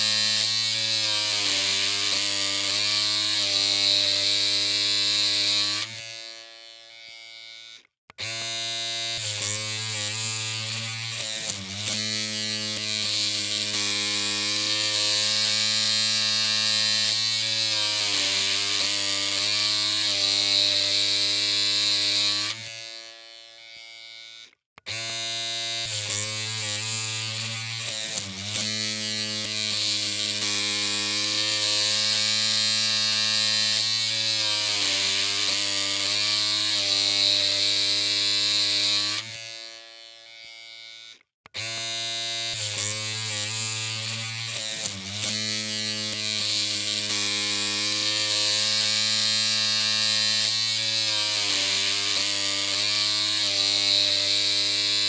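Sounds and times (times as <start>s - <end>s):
electric hair clippers humming: 0.0s - 55.0s.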